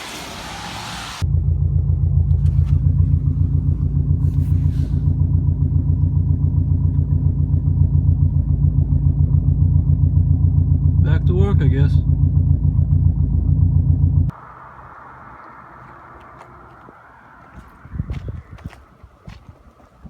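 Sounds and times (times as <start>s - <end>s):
car engine running steadily: 0.0s - 20.0s.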